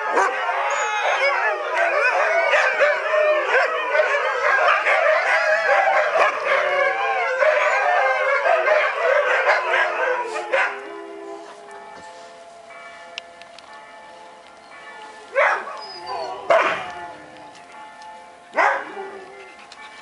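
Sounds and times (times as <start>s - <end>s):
huskies howling and yipping: 0.0s - 12.0s, 15.2s - 20.0s
church bells ringing: 0.0s - 20.0s.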